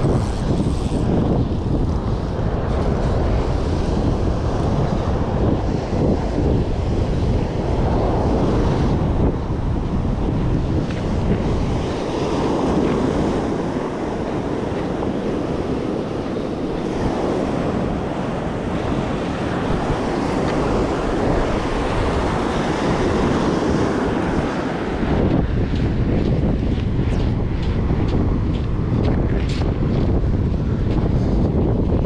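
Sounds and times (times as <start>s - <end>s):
sea surf washing onto beach: 0.0s - 32.0s
wind rumbling on microphone: 0.0s - 32.0s.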